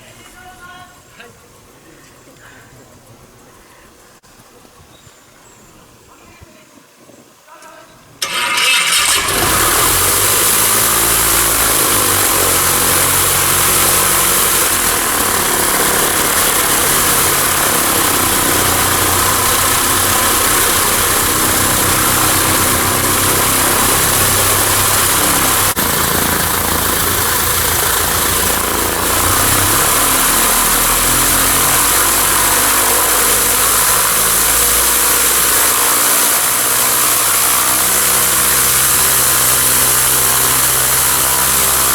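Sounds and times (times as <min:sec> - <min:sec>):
aircraft propeller engine drone: 0:08.2 - 0:41.9.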